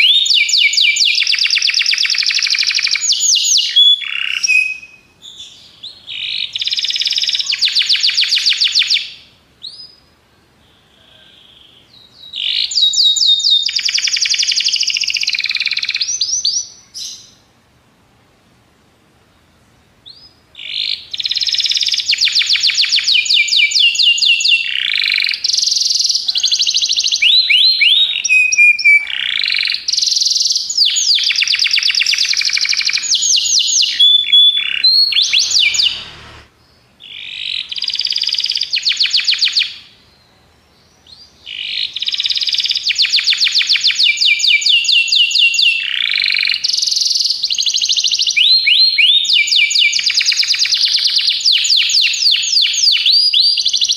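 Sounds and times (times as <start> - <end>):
canary singing trills: 0.0 - 17.5, 20.0 - 53.9.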